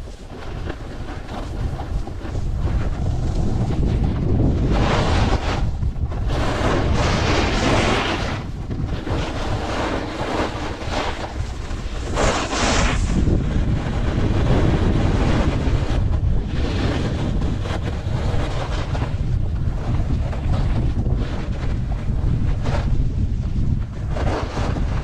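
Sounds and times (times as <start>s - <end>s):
snowboard scraping across snow: 0.0s - 25.0s
wind rumbling on microphone: 0.0s - 25.0s.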